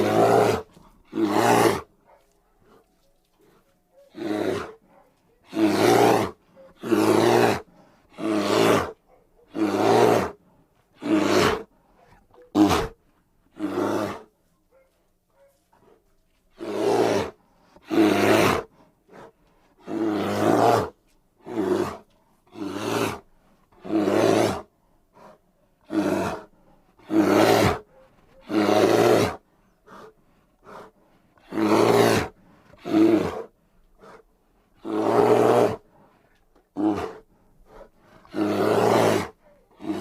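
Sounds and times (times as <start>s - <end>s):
bear roaring and growling: 0.0s - 1.9s, 4.1s - 4.9s, 5.5s - 10.4s, 11.0s - 11.7s, 12.5s - 14.3s, 16.6s - 40.0s.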